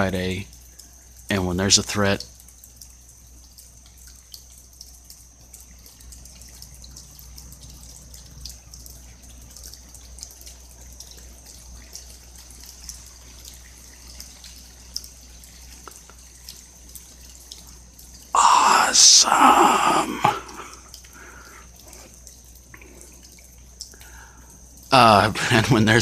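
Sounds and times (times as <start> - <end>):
scattered drip ticks: 0.0 - 18.3, 20.5 - 26.0
rain falling: 0.0 - 26.0.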